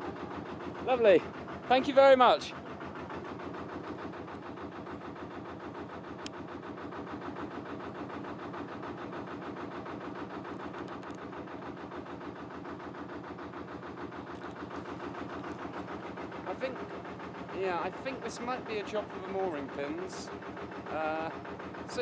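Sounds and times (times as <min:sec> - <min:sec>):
diesel engine running at low revs: 0:00.0 - 0:22.0.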